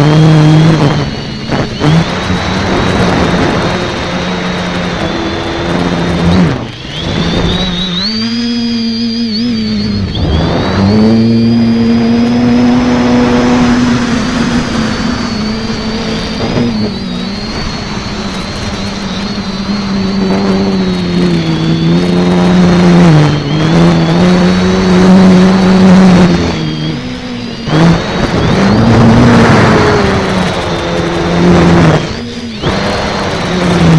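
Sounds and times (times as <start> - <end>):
drone motors humming in flight: 0.0 - 33.9
thin high whine: 0.0 - 33.9.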